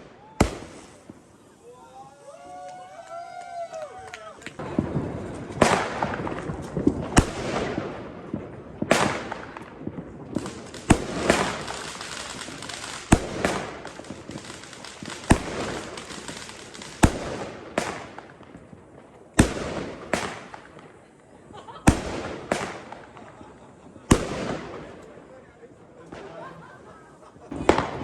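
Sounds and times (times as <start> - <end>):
fireworks bangs with crackling: 0.0 - 28.0.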